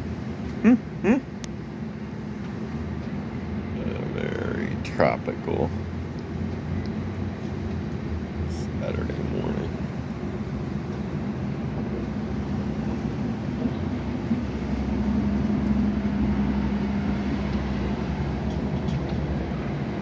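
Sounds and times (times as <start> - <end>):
low mechanical rumble: 0.0 - 20.0.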